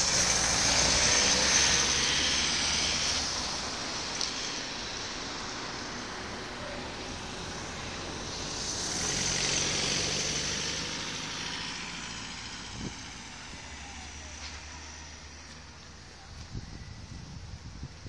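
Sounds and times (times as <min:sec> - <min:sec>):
vehicle passing: 0:00.0 - 0:17.4.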